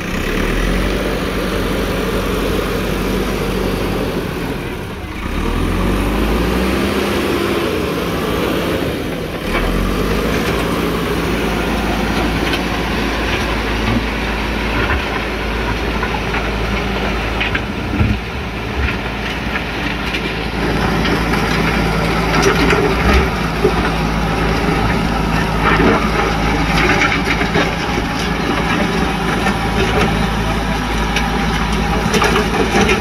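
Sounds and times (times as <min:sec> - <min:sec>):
diesel engine under load: 0:00.0 - 0:33.0
bucket pushing soil: 0:04.6 - 0:33.0.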